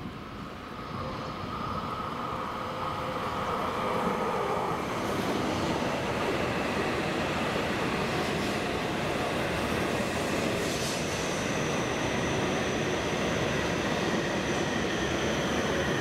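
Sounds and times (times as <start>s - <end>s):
train pulling in: 0.0s - 16.0s.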